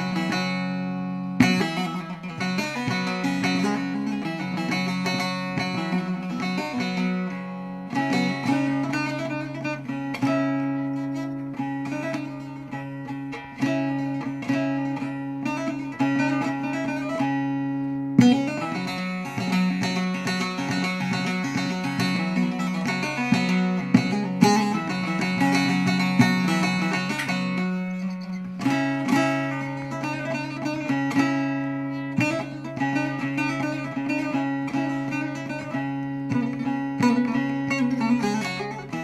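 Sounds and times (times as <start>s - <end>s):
plucked lute melody with drone: 0.0s - 39.0s.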